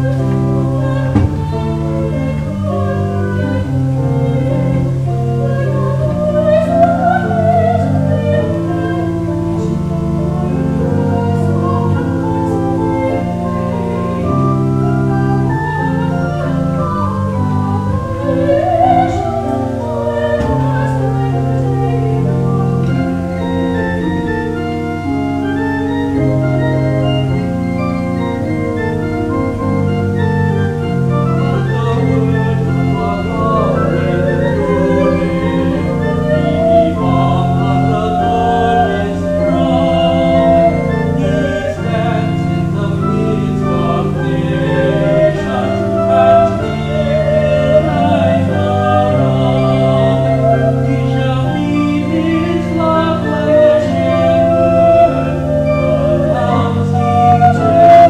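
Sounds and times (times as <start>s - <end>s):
church organ playing chords: 0.0s - 58.0s.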